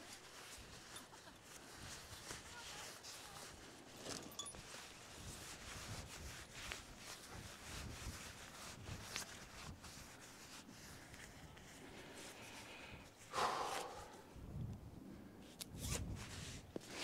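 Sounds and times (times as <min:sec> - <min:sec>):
tent fabric rustling: 0:00.0 - 0:14.2.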